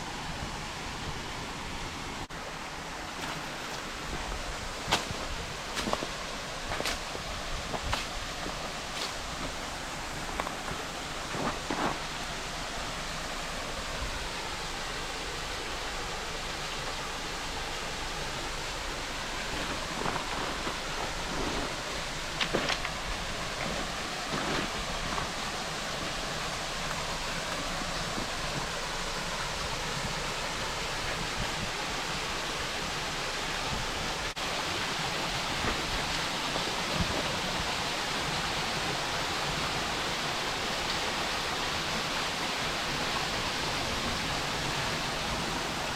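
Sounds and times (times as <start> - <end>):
waterfall and stream rushing: 0.0 - 45.9.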